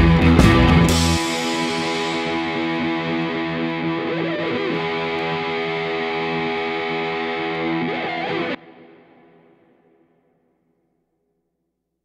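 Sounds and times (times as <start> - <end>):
distorted electric guitar chords: 0.0 - 10.3.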